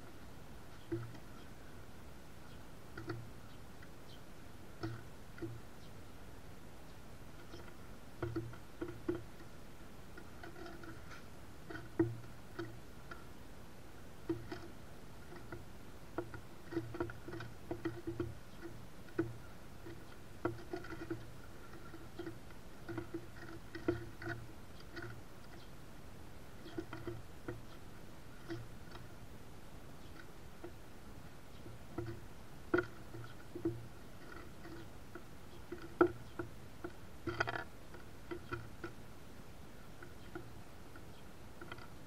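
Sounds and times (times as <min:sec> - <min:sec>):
birds pecking on wooden feeder: 0:00.0 - 0:42.0.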